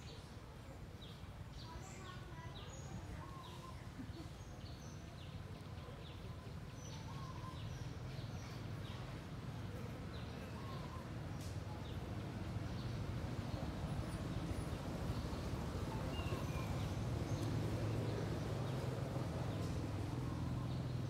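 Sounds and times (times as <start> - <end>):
birds chirping: 0.9 - 21.0
low outdoor rumble: 3.5 - 21.0.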